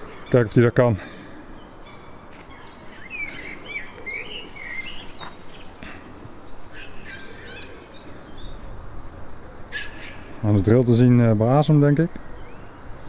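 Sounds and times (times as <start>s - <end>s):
outdoor background hiss: 0.0s - 13.0s
small birds chirping: 0.0s - 13.0s.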